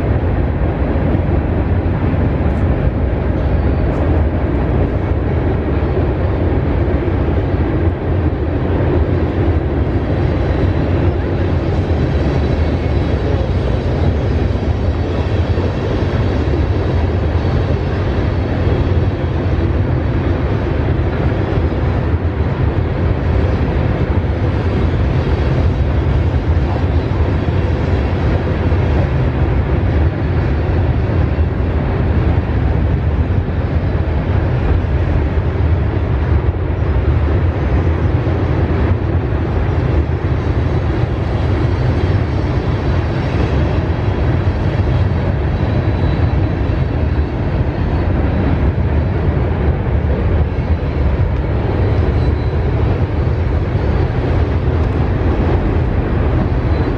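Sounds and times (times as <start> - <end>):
freight train cars rolling: 0.0 - 56.9.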